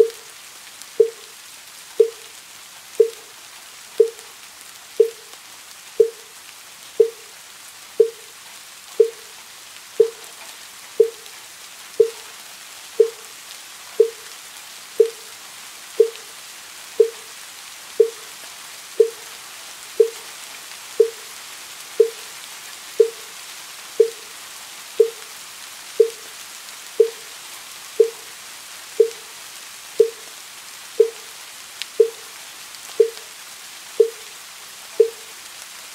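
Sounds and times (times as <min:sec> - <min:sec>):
rain patter: 0:00.0 - 0:35.9.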